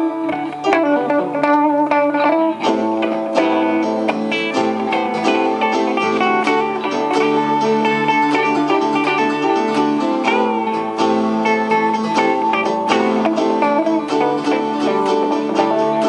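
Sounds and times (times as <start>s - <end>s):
electric guitars: 0.0s - 16.0s
electric keyboard: 0.0s - 16.0s.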